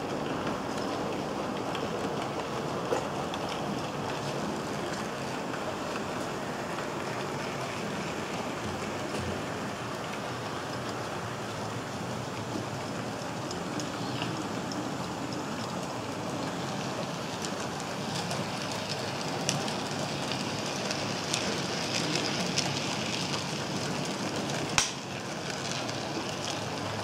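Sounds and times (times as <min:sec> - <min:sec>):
model train rattling whir: 0:00.0 - 0:27.0.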